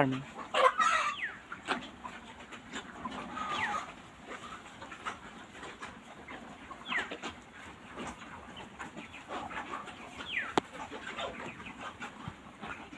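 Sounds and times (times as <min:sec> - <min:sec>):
chickens chirping: 0:00.0 - 0:12.9.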